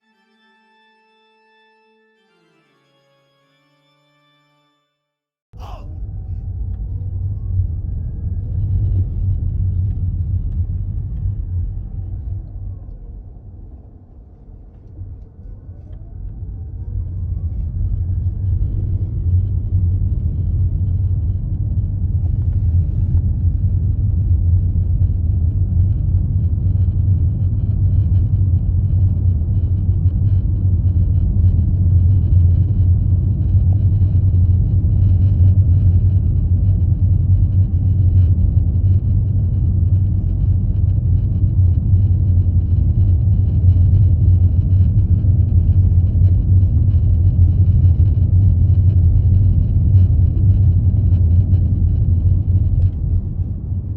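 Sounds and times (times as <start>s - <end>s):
car cabin road rumble: 5.6s - 53.9s.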